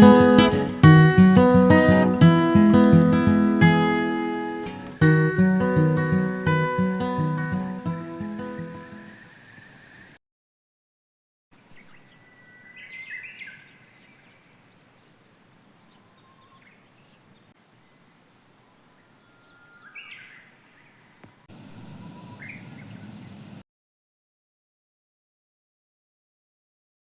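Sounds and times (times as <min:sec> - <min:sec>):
birds chirping: 0:00.0 - 0:10.2, 0:11.6 - 0:23.6
outdoor ambience: 0:00.0 - 0:10.2, 0:11.6 - 0:23.6.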